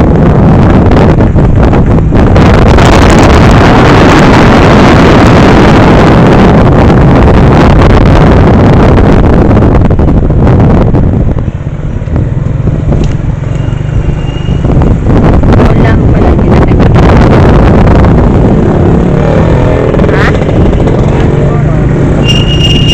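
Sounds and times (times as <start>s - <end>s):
low vehicle rumble: 0.0s - 22.9s
wind buffeting microphone: 0.0s - 22.9s.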